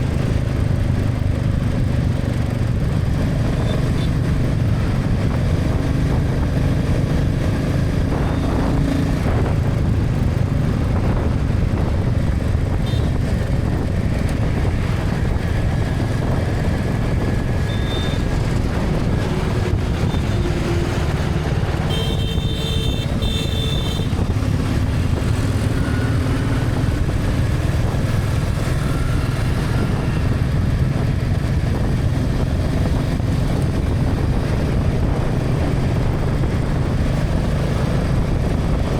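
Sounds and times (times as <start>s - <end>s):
motorcycle engine rumble: 0.0s - 38.9s
road noise: 0.0s - 38.9s
wind noise: 0.0s - 38.9s.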